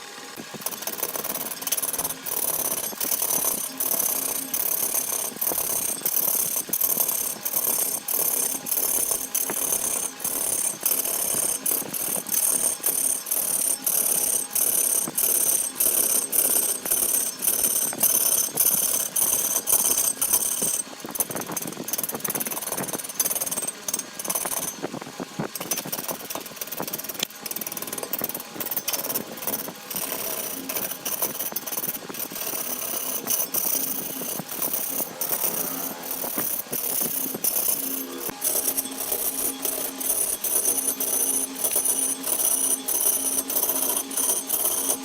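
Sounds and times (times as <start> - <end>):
machine knocking rhythmically: 0.4 - 45.0.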